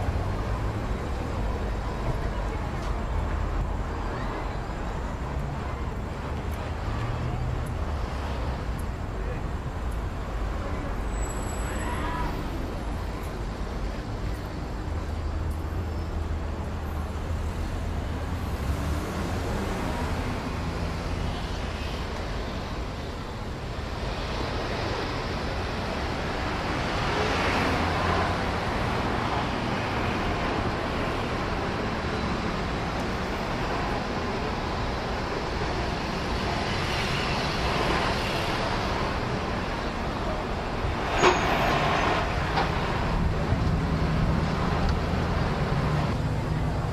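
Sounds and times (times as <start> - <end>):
vehicle engines passing: 0.0 - 46.9.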